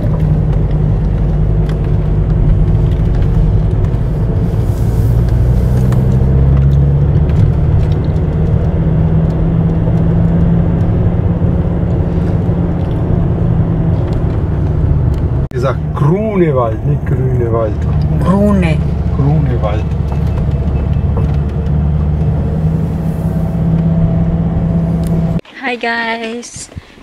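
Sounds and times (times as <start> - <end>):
car engine and road noise: 0.0 - 26.6.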